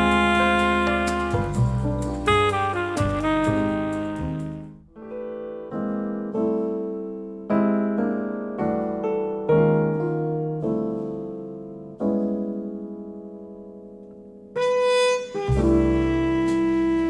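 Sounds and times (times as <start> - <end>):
slow piano-like keyboard chords: 0.0 - 17.0.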